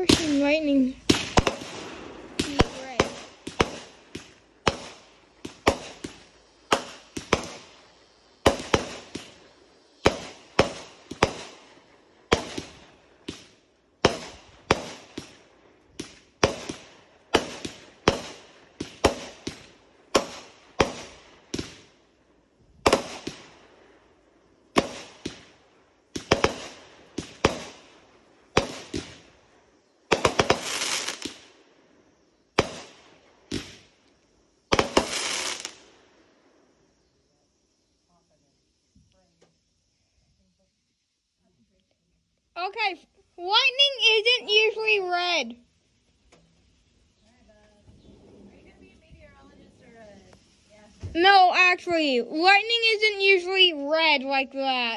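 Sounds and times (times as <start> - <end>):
fireworks bangs: 0.0 - 36.3, 42.8 - 54.9
fireworks crackling: 0.0 - 39.6, 42.3 - 54.9.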